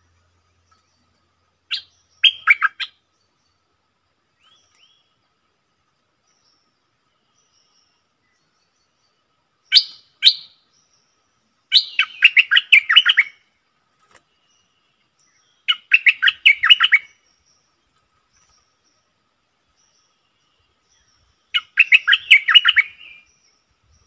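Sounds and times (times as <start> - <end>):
bulbul singing: 0.0 - 5.2, 6.3 - 13.6, 14.4 - 19.0, 19.7 - 24.0.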